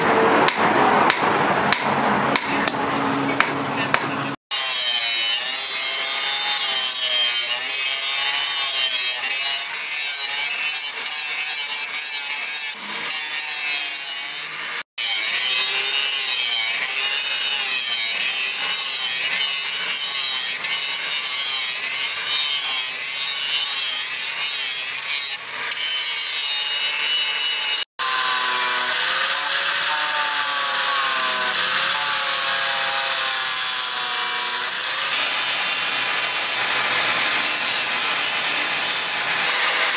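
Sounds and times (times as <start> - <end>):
angle grinder grinding steel: 4.5 - 39.9.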